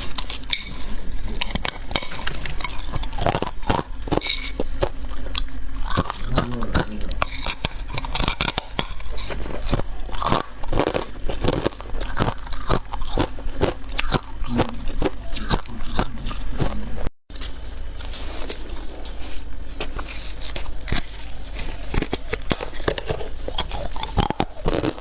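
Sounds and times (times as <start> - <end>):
chewing crunchy ice: 0.0 - 25.0.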